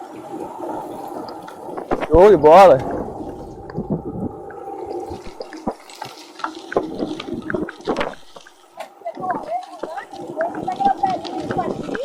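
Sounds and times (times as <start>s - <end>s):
water splashing and gurgling: 0.0s - 12.0s.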